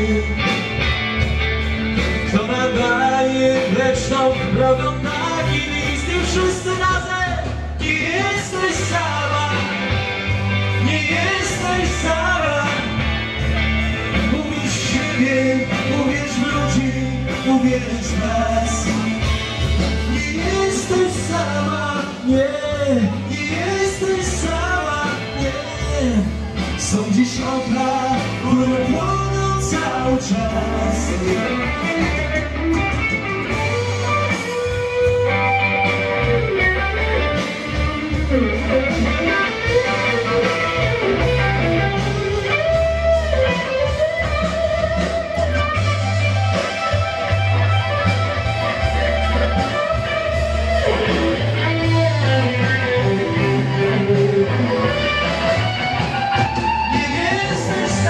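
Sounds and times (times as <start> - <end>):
bass line: 0.0 - 58.0
electric guitar lead melody: 0.0 - 58.0.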